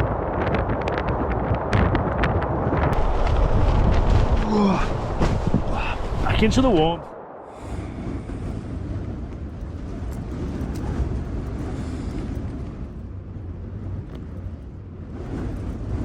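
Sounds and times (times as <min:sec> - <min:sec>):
wind buffeting a tent: 0:00.0 - 0:16.0.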